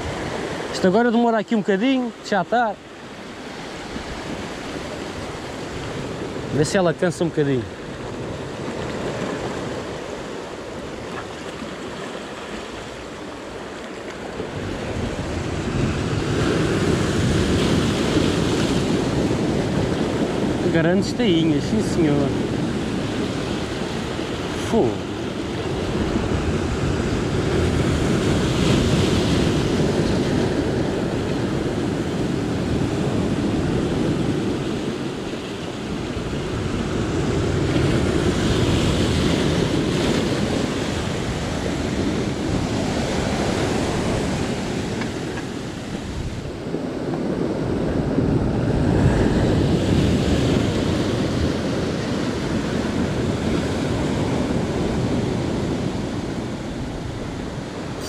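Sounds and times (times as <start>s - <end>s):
sea surf washing on shore: 0.0s - 58.0s.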